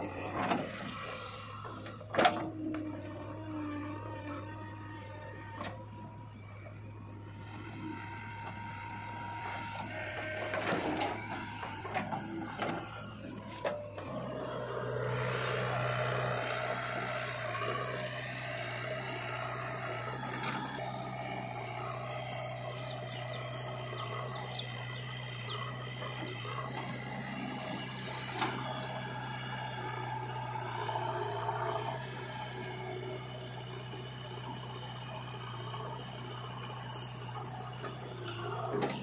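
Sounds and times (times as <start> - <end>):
diesel engines humming: 0.0 - 39.0.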